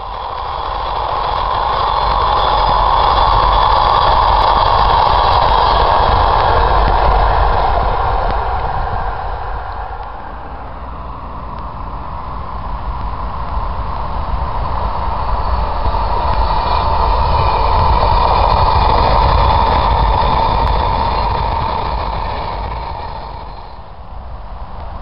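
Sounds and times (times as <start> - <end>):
express train passing: 0.0 - 25.0.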